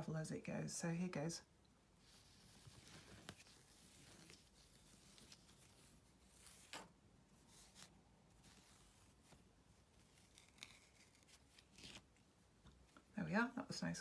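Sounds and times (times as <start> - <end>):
wool strands rustling: 1.8 - 14.0.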